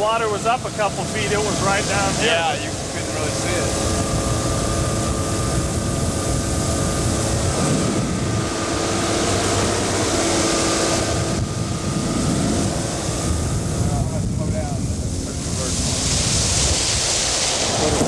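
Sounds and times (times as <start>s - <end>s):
outboard motor running: 0.0s - 18.0s
wind and water hiss: 0.0s - 18.0s.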